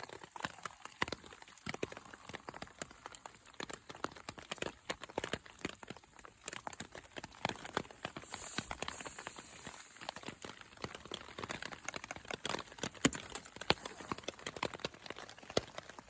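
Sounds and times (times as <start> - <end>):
heavy rain drops tapping: 0.0 - 16.0.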